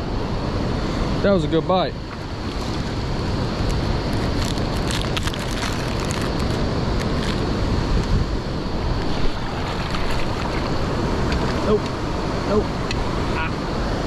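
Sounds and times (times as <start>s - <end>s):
river current flowing: 0.0s - 14.0s
wind buffeting microphone: 0.0s - 14.0s.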